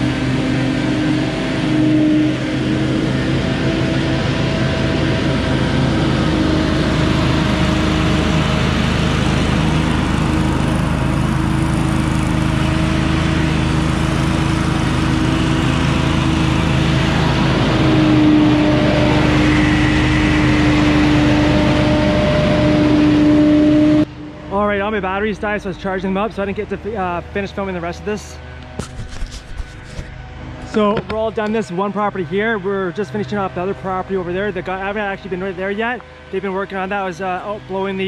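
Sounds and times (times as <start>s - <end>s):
leaf blower running: 0.0s - 38.0s.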